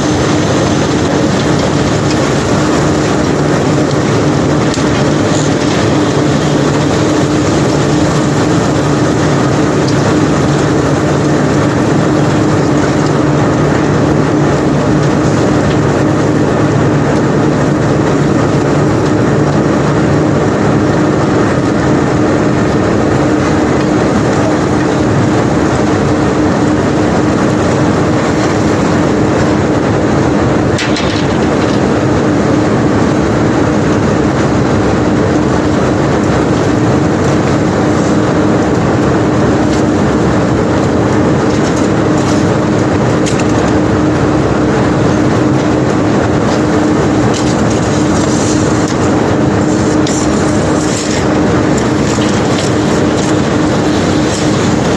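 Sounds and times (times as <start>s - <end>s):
machinery engine hum: 0.0s - 54.9s.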